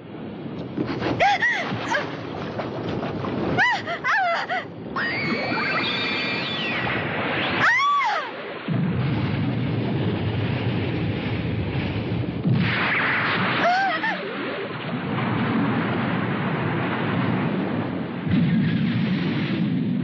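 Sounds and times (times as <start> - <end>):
water rushing roar: 0.0 - 18.2.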